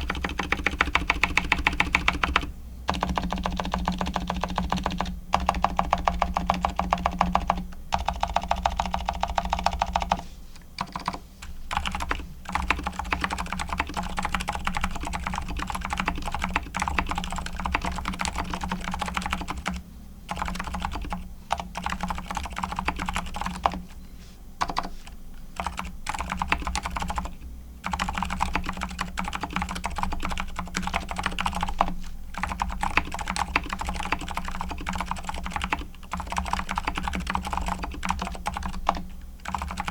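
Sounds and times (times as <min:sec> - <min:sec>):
fast typing on a keyboard: 0:00.0 - 0:10.2, 0:10.8 - 0:23.9, 0:24.6 - 0:24.9, 0:25.6 - 0:39.9.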